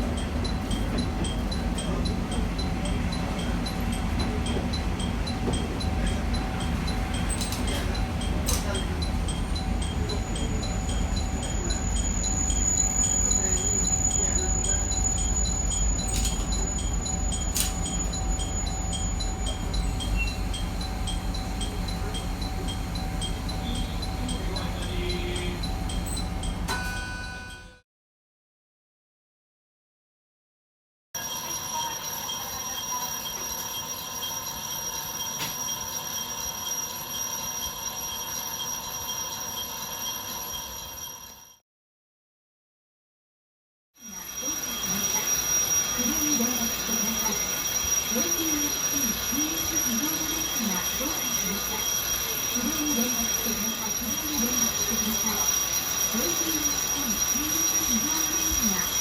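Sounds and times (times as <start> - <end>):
continuous electronic warning tone: 0.0 - 27.8, 31.2 - 41.6, 44.0 - 59.0
train running: 0.0 - 27.8, 31.2 - 41.6, 44.0 - 59.0.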